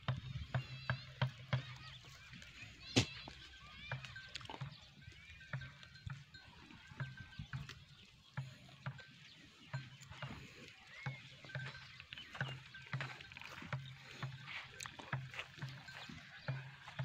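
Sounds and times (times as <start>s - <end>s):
footsteps on sandy ground: 0.0s - 17.0s.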